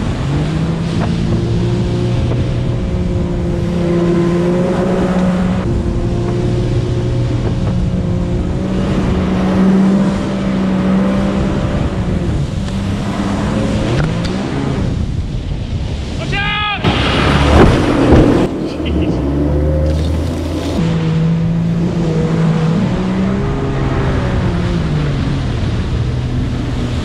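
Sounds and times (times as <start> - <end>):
jet ski engine running: 0.0 - 16.2, 16.8 - 27.0.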